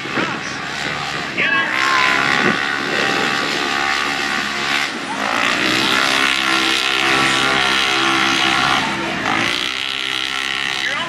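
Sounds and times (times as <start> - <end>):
utility vehicle engines racing: 0.0 - 11.0.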